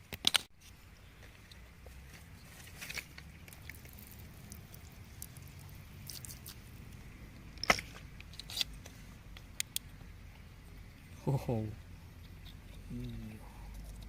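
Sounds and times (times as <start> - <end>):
low steady rumble: 0.8 - 14.0.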